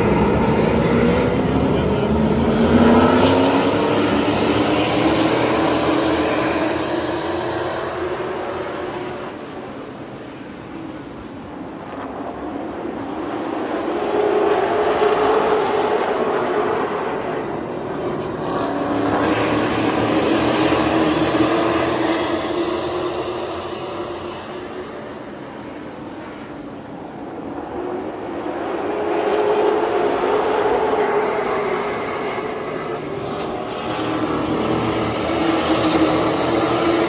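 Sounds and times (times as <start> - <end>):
stock car engines racing: 0.0 - 37.0.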